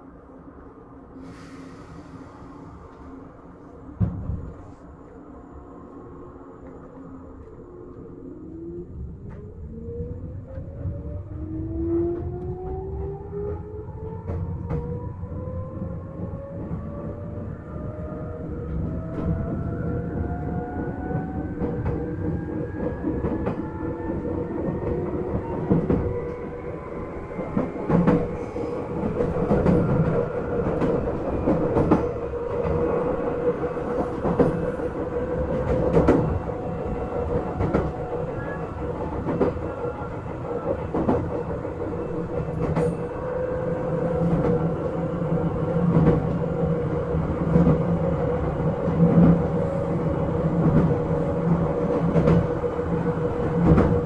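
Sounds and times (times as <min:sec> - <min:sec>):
train wheels rumbling: 0:03.9 - 0:54.0.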